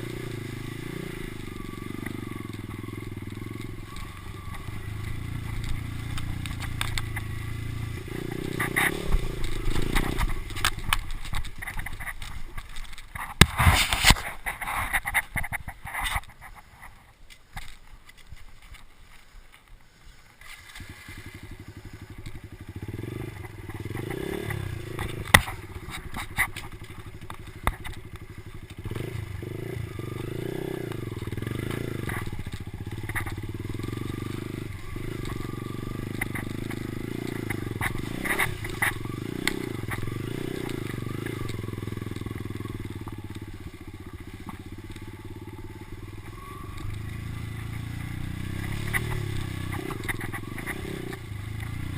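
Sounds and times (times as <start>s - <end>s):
dirt bike engine revving: 0.0s - 12.3s, 20.7s - 51.9s.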